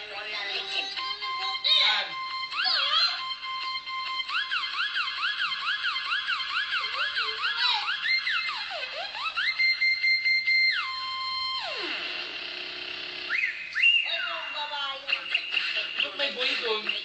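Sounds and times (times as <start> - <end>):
dance music on television: 0.0 - 17.0.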